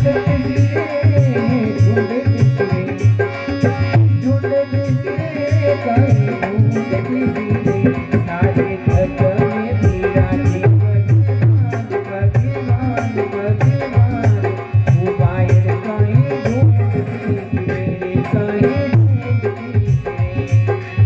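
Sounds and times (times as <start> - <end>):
tabla playing a steady rhythm: 0.0 - 21.0.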